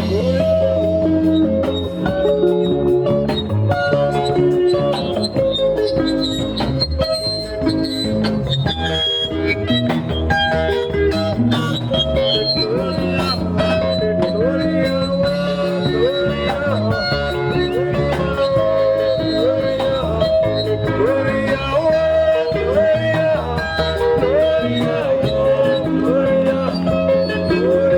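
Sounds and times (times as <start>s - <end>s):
live band playing: 0.0s - 27.9s.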